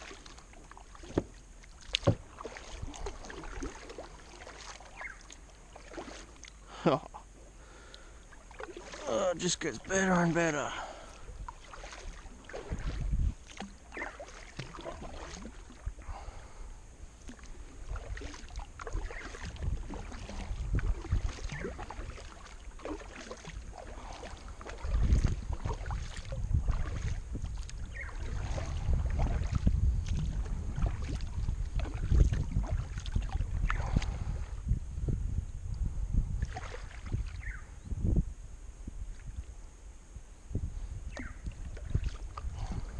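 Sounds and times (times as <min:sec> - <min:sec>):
wind rumble on microphone: 0:00.0 - 0:05.7, 0:10.9 - 0:42.9
paddle splashing in water: 0:00.0 - 0:06.7, 0:07.6 - 0:34.6, 0:36.4 - 0:37.6, 0:41.1 - 0:42.9.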